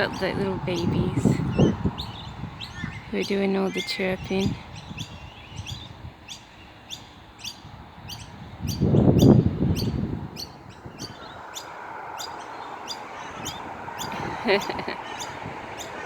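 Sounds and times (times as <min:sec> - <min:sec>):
baby birds chirping: 0:00.0 - 0:16.0.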